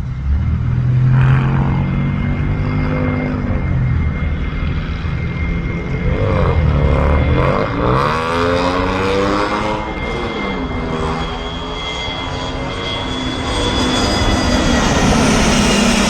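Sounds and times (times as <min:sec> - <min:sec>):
aircraft engines passing close: 0:00.0 - 0:16.0.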